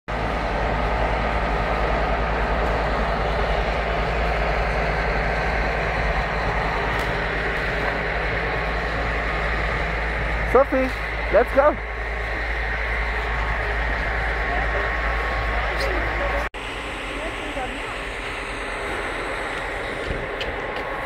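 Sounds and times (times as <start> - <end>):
low hum: 0.1 - 21.0
train running: 0.1 - 21.0.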